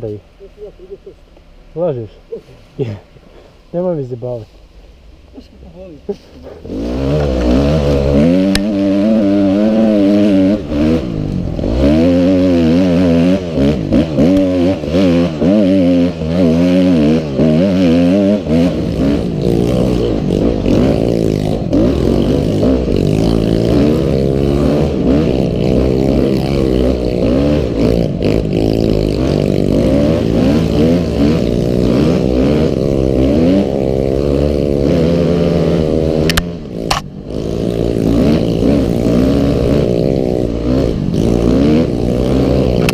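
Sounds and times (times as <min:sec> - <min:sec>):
motorcycle engine revving: 0:05.1 - 0:42.9.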